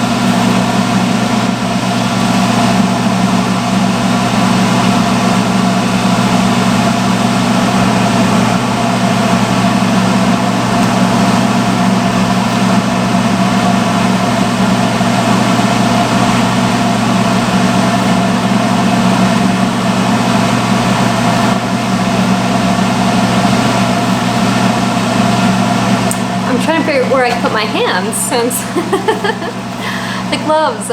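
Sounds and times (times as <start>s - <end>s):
hood hair dryer blowing: 0.0s - 30.9s.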